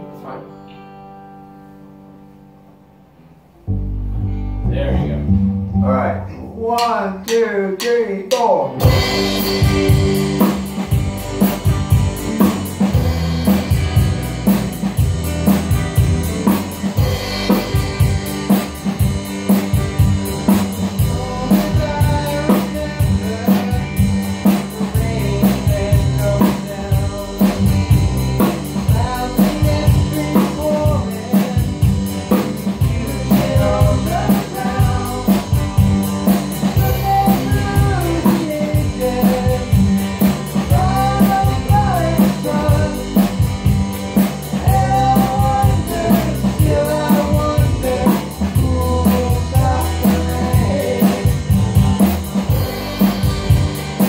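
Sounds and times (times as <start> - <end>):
bass guitar: 0.0 - 54.0
drum kit beat: 6.6 - 54.0
electric guitar: 8.6 - 54.0.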